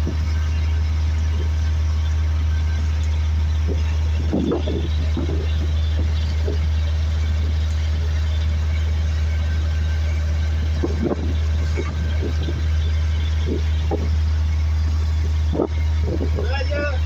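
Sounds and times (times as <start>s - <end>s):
boat engine droning: 0.0s - 17.0s
water rushing along hull: 0.0s - 17.0s.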